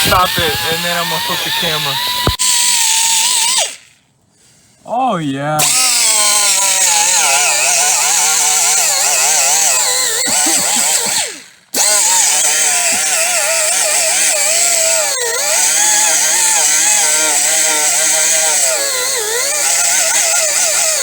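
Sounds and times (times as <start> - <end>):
power tool whine on metal: 0.0 - 4.0, 5.6 - 21.0.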